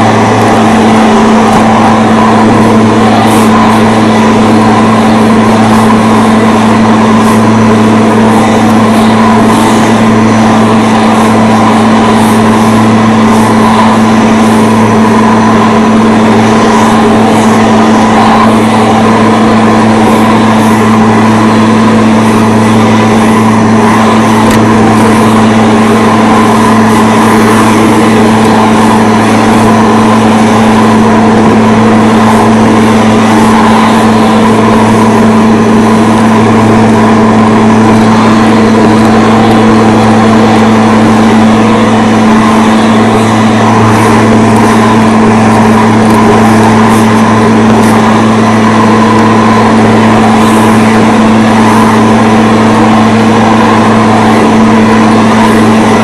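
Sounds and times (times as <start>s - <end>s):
lawn mower engine running: 0.0s - 56.0s.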